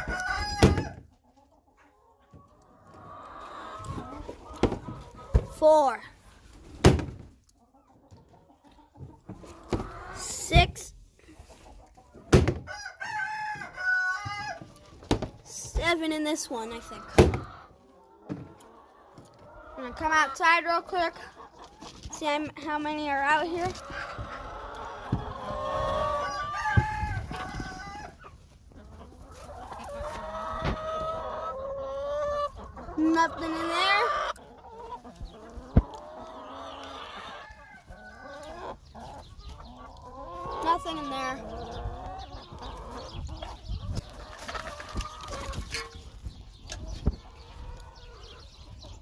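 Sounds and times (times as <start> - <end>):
chickens calling: 0.0 - 49.0
hens clucking: 0.0 - 49.0.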